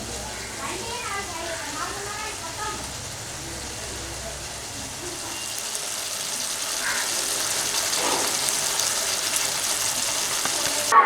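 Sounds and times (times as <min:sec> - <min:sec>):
curry sizzling in a pot: 0:00.0 - 0:10.9.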